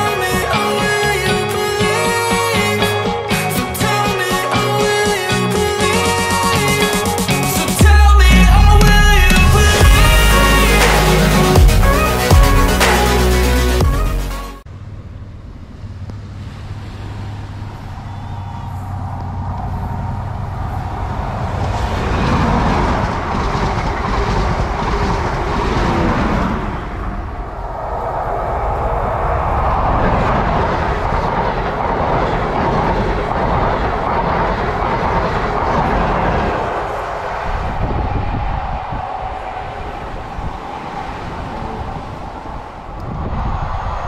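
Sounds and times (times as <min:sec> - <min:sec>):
diesel train passing: 0:00.0 - 0:44.0
second train rumbling close by: 0:00.0 - 0:44.0.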